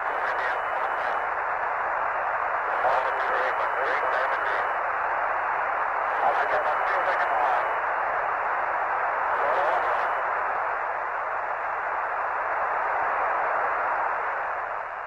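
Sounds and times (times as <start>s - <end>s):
radio hiss: 0.0s - 15.0s.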